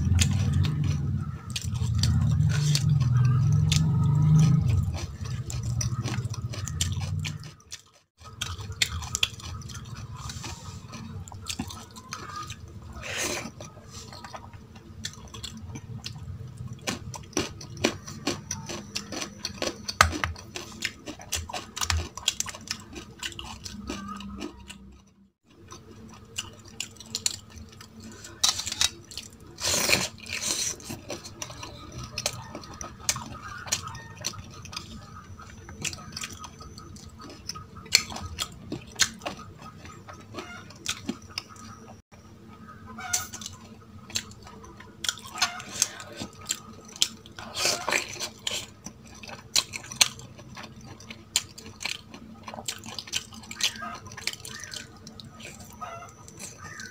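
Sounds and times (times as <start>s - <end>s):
chewing and mouth smacks: 0.0s - 42.0s, 43.1s - 56.9s.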